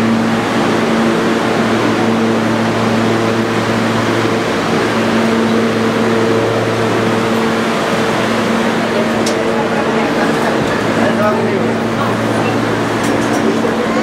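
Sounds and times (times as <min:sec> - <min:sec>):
higher electrical hum: 0:00.0 - 0:14.0
subway car low hum: 0:00.0 - 0:14.0.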